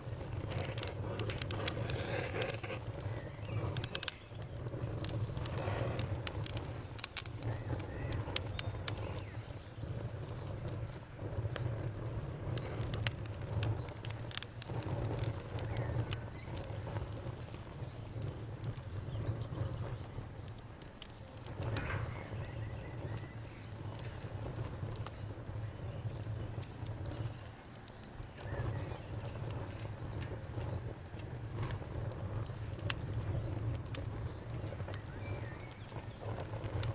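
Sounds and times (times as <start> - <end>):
campfire crackling and popping: 0.0 - 36.9
crickets chirping: 0.0 - 36.9.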